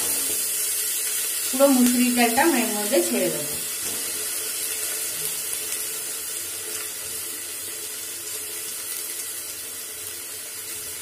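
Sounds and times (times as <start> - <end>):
lentils sizzling in oil: 0.0 - 11.0.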